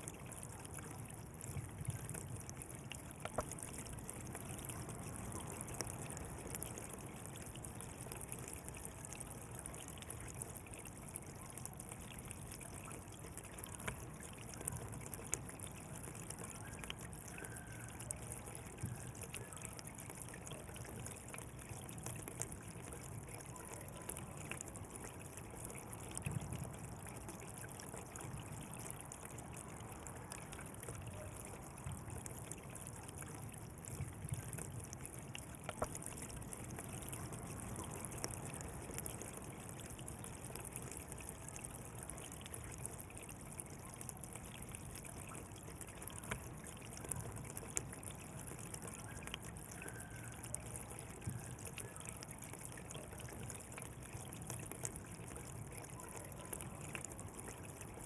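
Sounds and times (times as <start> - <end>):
small water splashes: 0.0 - 58.0
water flowing and trickling: 0.0 - 58.0.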